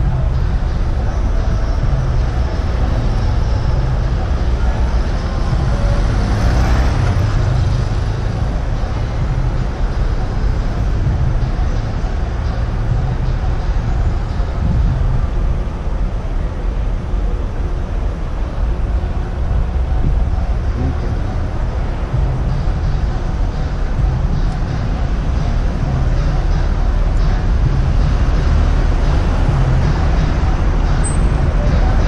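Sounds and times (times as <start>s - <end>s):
car passing: 0.0s - 32.0s
road and traffic noise: 0.0s - 32.0s.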